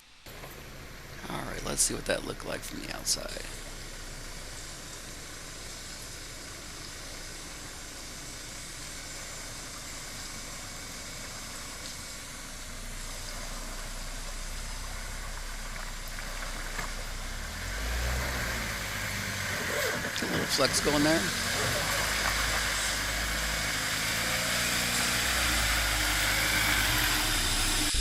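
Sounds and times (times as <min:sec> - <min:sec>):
engine running at low speed: 0:00.0 - 0:28.0
steady hiss: 0:00.0 - 0:28.0.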